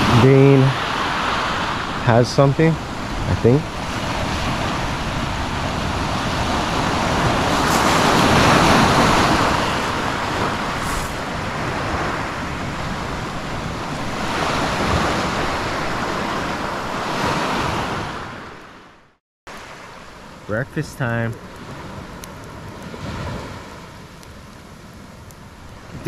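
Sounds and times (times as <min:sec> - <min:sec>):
surf washing onto shore: 0:00.0 - 0:18.9, 0:19.5 - 0:26.0.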